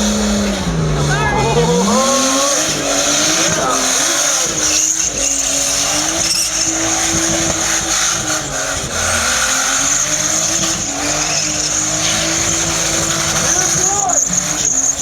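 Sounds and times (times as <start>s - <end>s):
car engine revving high: 0.0s - 15.0s
tyres squealing: 0.0s - 15.0s.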